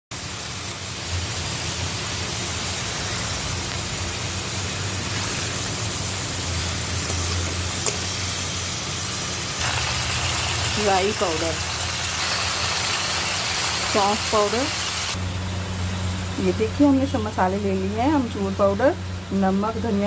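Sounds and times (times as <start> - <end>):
food sizzling in oil: 0.1 - 20.0.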